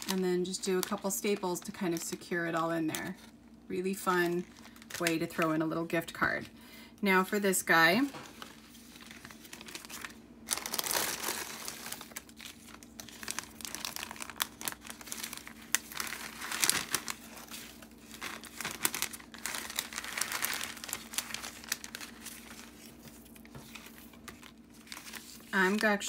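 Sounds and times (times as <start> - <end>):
plastic bag and paper crinkling: 0.0 - 6.5, 7.7 - 26.0.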